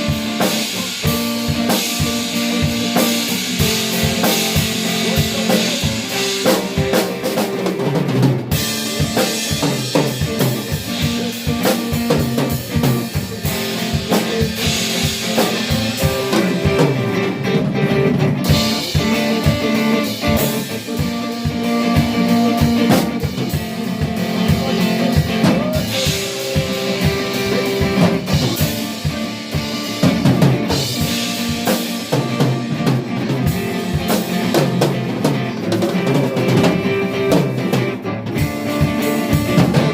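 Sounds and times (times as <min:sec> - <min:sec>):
drum kit kick and snare: 0:00.0 - 0:39.9
live band playing: 0:00.0 - 0:39.9.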